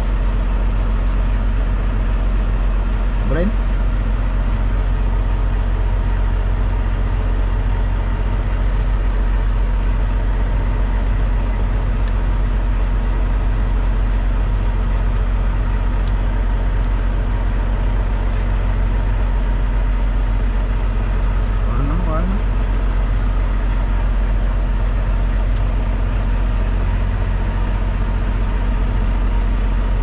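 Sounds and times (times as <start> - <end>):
truck diesel engine drone: 0.0 - 30.0.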